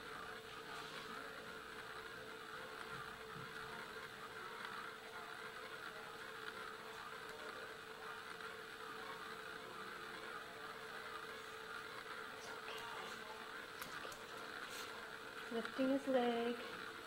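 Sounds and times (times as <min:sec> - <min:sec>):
steady buzzing hum: 0:00.0 - 0:17.0.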